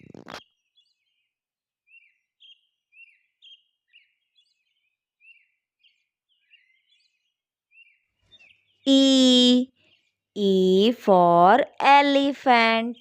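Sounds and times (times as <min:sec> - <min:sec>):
faint small birds chirping: 0:00.0 - 0:13.0.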